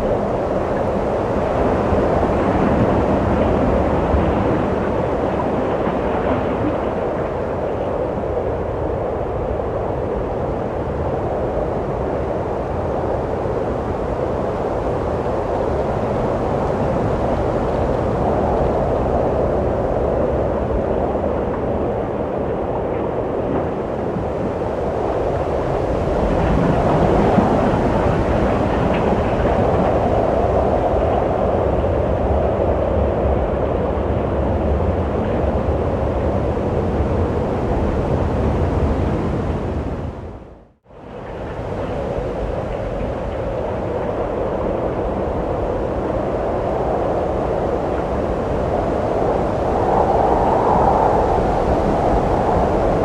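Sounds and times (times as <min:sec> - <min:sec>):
rushing wind: 0:00.0 - 0:53.0.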